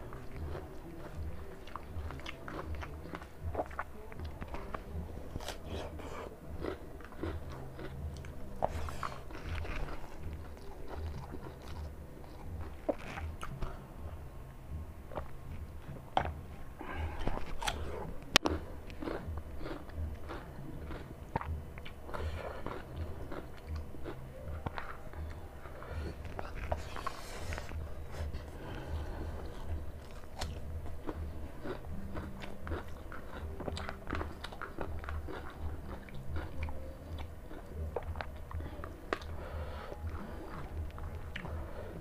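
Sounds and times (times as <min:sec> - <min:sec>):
man chewing with wet smacks: 0:00.0 - 0:14.2, 0:15.1 - 0:42.0.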